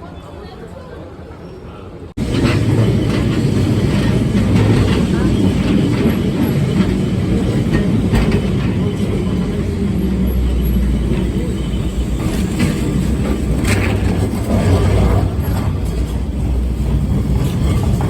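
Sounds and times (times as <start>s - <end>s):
tram rumbling on rails: 0.0s - 18.0s
wheels knocking on rails: 2.2s - 18.0s.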